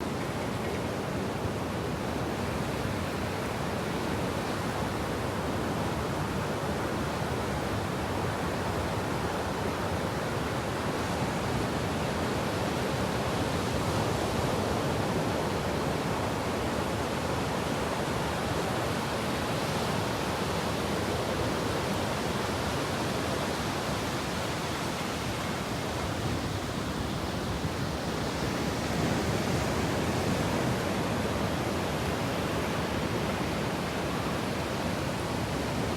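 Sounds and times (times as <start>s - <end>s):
sea surf washing onto beach: 0.9s - 35.9s.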